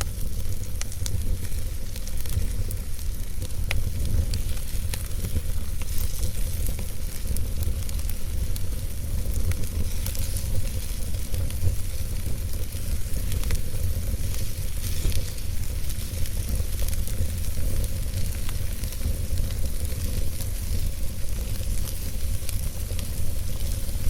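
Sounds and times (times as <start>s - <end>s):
fire rumbling and hissing: 0.0s - 24.0s
logs crackling and popping: 0.0s - 24.0s.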